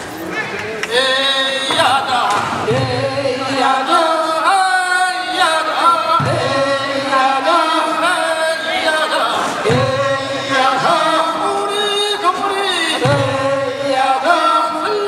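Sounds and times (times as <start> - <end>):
men's chorus singing unaccompanied: 0.6 - 15.0.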